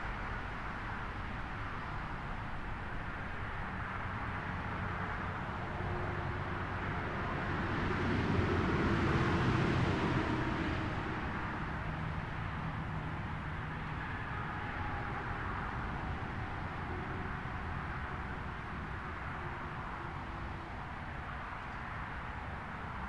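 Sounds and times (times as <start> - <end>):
passing vehicle: 0.0 - 23.0
steady traffic hum: 0.0 - 23.0.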